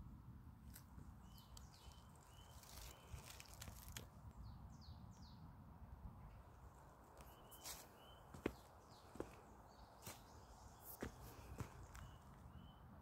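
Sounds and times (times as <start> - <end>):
faint birds chirping: 0.6 - 13.0.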